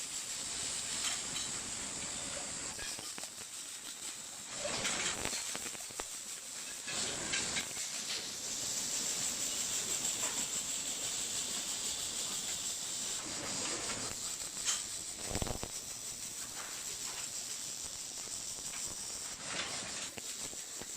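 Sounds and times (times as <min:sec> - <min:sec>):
welding arc hissing and crackling: 0:00.0 - 0:20.9.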